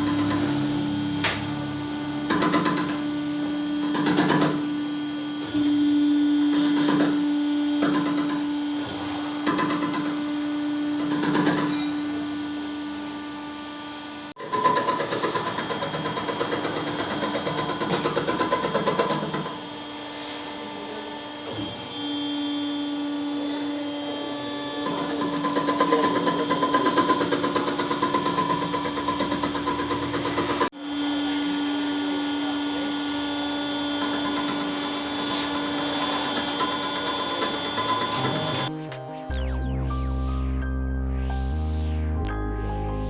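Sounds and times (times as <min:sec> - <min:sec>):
rough metal cutting: 0:00.0 - 0:38.7
machine motor whine: 0:00.0 - 0:39.8.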